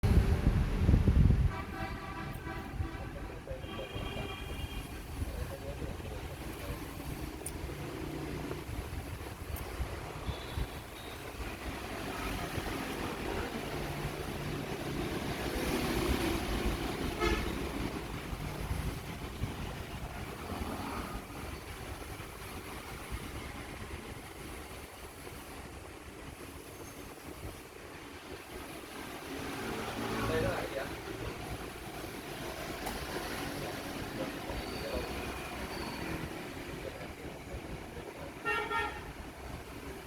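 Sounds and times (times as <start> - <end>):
vehicle engines passing by: 0.0 - 40.0.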